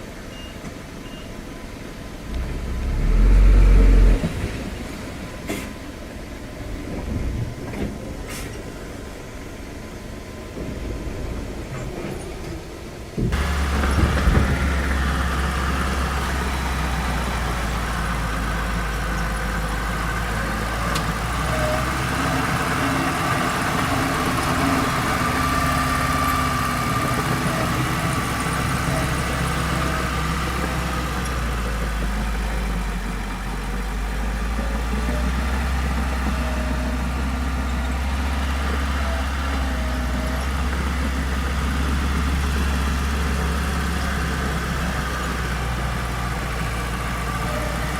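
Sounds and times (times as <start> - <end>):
heavy machinery engine droning: 0.4 - 47.9.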